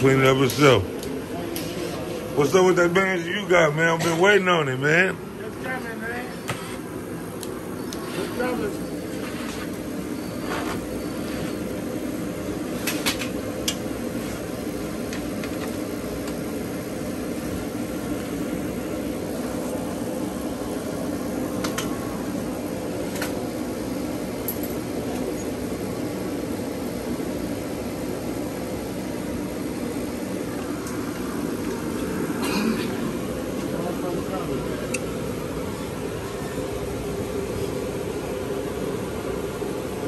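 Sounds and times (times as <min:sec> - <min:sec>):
mechanical hum: 0:00.0 - 0:40.0.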